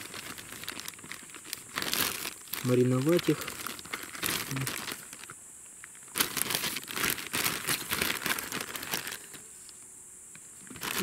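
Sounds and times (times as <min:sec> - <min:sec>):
plastic bag crinkling: 0:00.0 - 0:09.4, 0:10.6 - 0:11.0.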